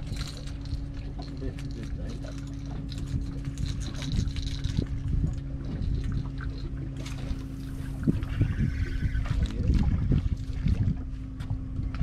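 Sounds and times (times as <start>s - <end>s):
steady low hum: 0.0s - 12.0s
water lapping against boat hull: 0.0s - 12.0s.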